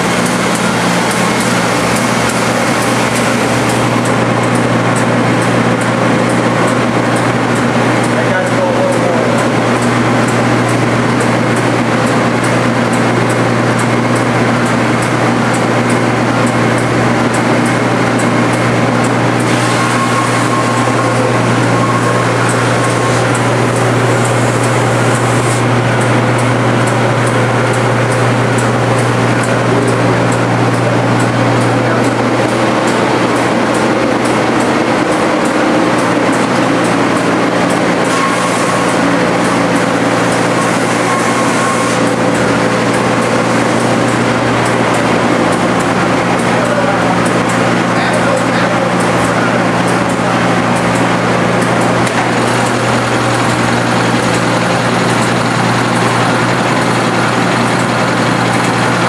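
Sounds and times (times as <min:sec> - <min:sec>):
belt sander machine hum: 0:00.0 - 0:59.0.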